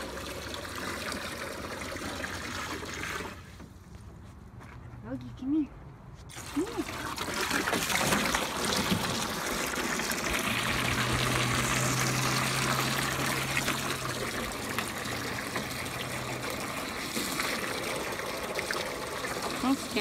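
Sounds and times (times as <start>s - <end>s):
hose water pouring into pool: 0.0s - 3.6s, 6.3s - 20.0s.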